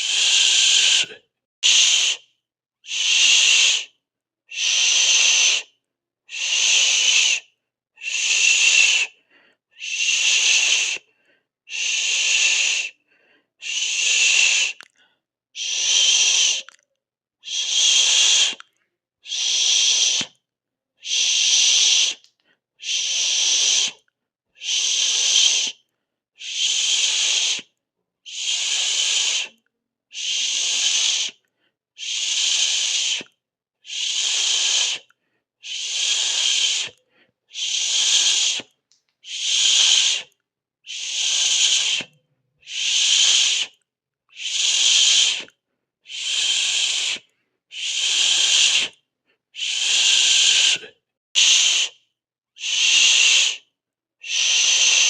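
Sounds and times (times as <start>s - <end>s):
person hissing: 0.0s - 2.2s, 2.9s - 3.9s, 4.5s - 5.7s, 6.3s - 7.4s, 8.0s - 9.2s, 9.8s - 11.1s, 11.7s - 13.0s, 13.6s - 14.9s, 15.6s - 16.8s, 17.4s - 18.6s, 19.2s - 20.4s, 21.0s - 24.0s, 24.6s - 25.8s, 26.4s - 27.7s, 28.3s - 31.4s, 32.0s - 49.0s, 49.6s - 52.0s, 52.6s - 55.0s.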